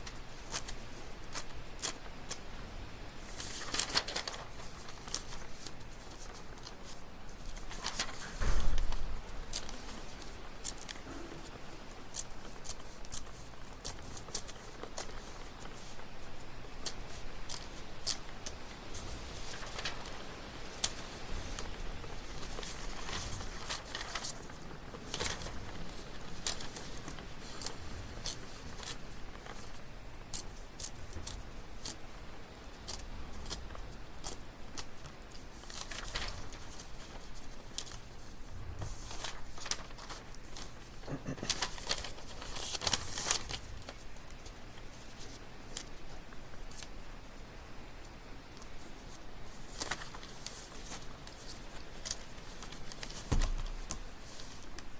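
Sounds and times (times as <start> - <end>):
paper rustling: 0.0 - 47.4, 48.0 - 54.9.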